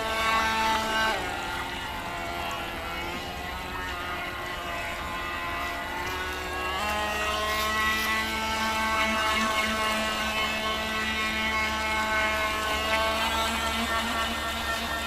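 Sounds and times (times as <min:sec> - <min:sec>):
toy boat motor whining: 0:00.0 - 0:15.0.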